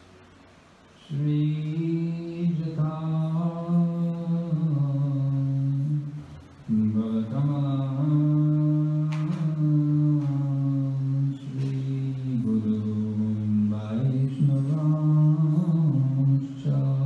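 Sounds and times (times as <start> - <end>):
man chanting: 1.0 - 17.0.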